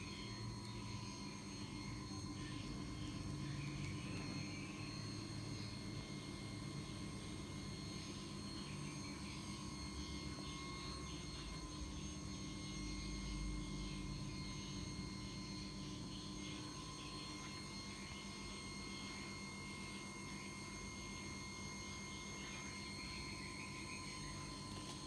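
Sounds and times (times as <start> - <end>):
machine hum with whining tones: 0.0 - 25.0.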